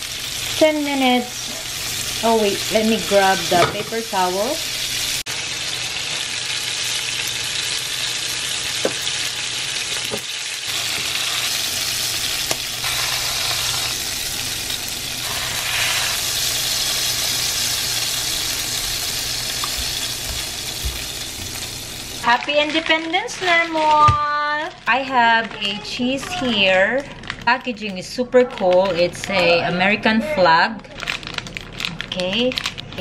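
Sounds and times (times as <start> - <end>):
burger patties sizzling: 0.0 - 27.0.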